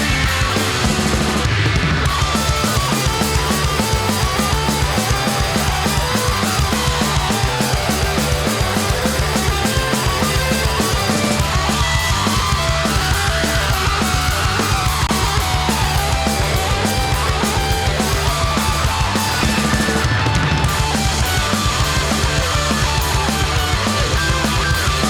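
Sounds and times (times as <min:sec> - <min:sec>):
bass guitar: 0:00.0 - 0:25.0
drumbeat: 0:00.0 - 0:25.0
electric guitars: 0:00.0 - 0:25.0.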